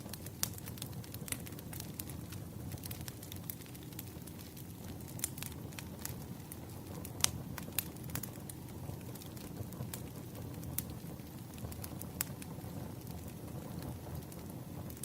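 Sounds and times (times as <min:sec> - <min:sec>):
logs crackling and popping: 0:00.0 - 0:15.0
low rush of flames: 0:00.0 - 0:15.0.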